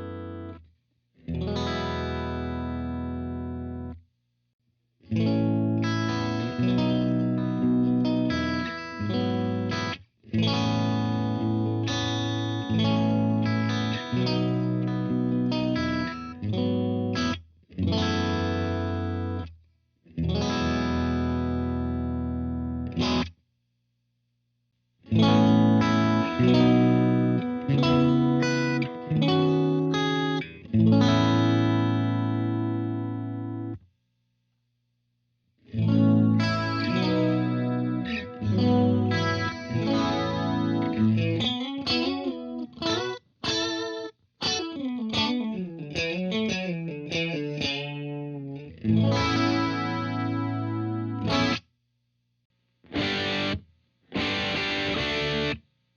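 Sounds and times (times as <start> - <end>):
overdriven electric guitar: 1.3 - 4.0, 5.0 - 19.5, 20.1 - 23.3, 25.1 - 33.8, 35.7 - 51.6, 52.8 - 55.6.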